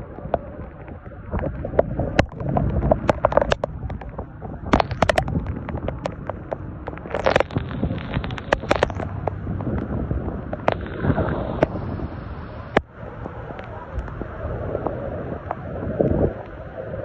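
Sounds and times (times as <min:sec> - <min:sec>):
raindrops tapping close by: 0:00.0 - 0:16.8
heavy rain pouring: 0:00.0 - 0:17.0
wind rumble on microphone: 0:00.0 - 0:17.0.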